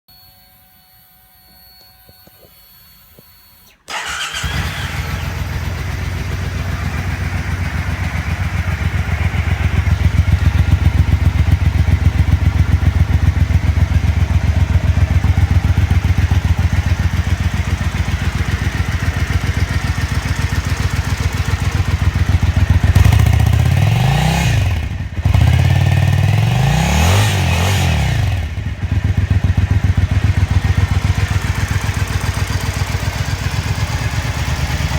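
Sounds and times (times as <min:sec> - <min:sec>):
motorcycle engine idling and revving: 0:03.9 - 0:34.9.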